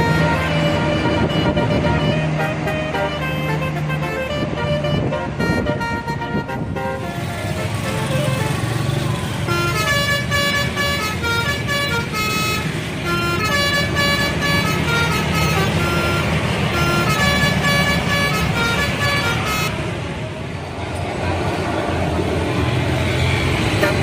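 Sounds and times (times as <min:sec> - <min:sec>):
multi-tone air horn tune: 0:00.0 - 0:19.9, 0:23.8 - 0:24.0
bus engine rumble: 0:00.0 - 0:24.0
traffic: 0:00.0 - 0:24.0.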